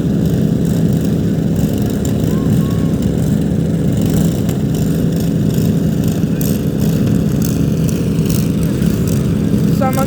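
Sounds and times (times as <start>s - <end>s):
small vehicle engines droning: 0.0s - 10.0s.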